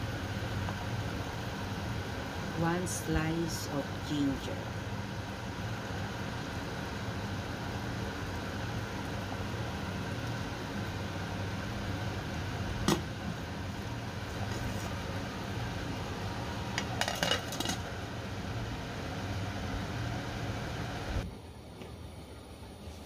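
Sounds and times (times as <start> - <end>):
boiling pot hiss and hum: 0.0 - 23.0.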